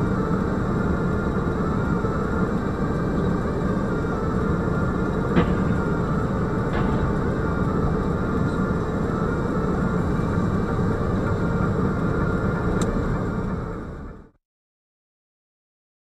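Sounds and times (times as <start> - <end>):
car engine rumble: 0.0 - 14.4
road noise: 0.0 - 14.4.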